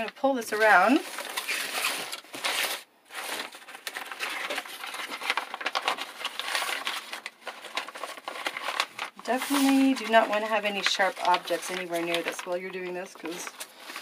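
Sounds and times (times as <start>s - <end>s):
rustling and crinkling nylon: 0.0s - 14.0s.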